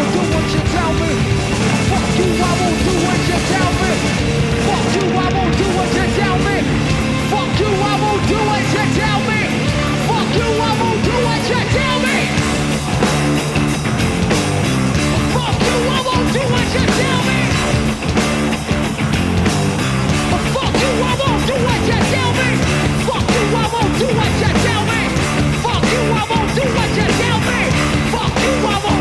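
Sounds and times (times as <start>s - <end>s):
rock music with drums and guitar: 0.0s - 29.0s.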